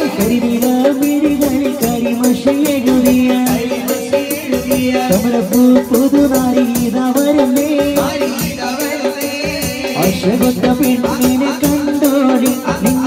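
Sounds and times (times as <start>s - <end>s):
congas played by hand: 0.0s - 13.0s.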